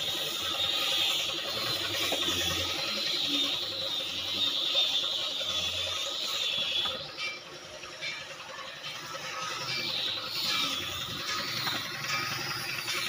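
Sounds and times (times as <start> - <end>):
high-pitched buzzing: 0.0 - 13.0.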